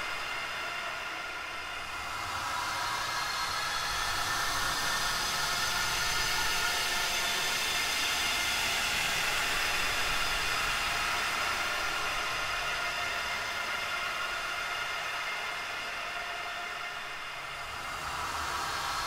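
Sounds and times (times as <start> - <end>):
hissing wind-like drone: 0.0 - 19.0.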